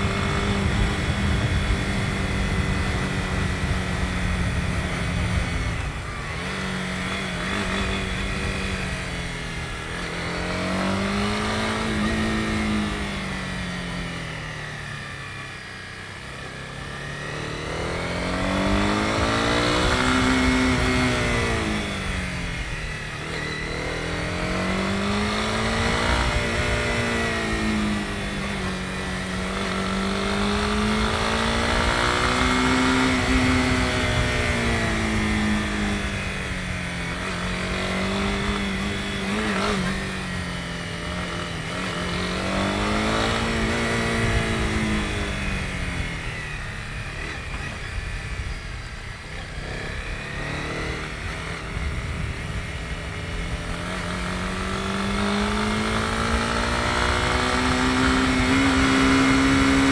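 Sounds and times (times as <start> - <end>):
motorcycle engine running: 0.0 - 59.9
road and wind noise: 0.0 - 59.9.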